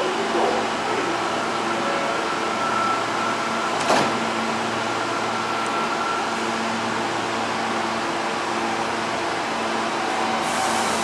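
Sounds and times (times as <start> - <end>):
subway train electrical whine: 0.0 - 11.0.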